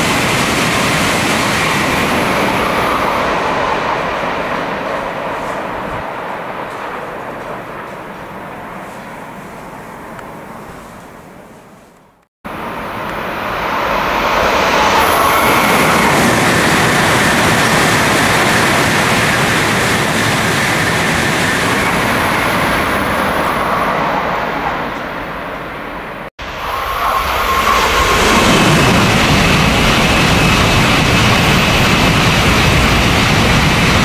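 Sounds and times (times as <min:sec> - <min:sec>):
high-speed train passing: 0:00.0 - 0:34.0.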